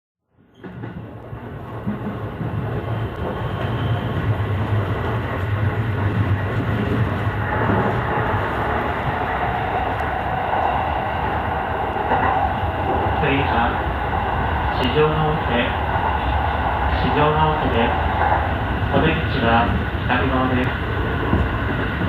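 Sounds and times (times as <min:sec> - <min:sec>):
train wheels and motors rumbling: 0:00.5 - 0:22.0.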